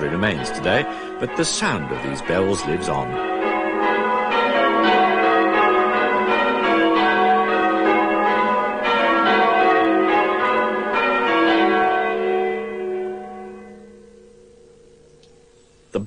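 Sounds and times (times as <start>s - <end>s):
church bells ringing changes: 0.0s - 15.6s.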